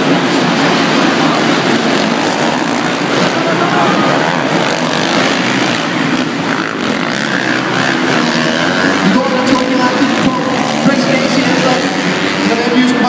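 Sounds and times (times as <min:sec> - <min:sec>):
dirt-bike engines revving: 0:00.0 - 0:13.0.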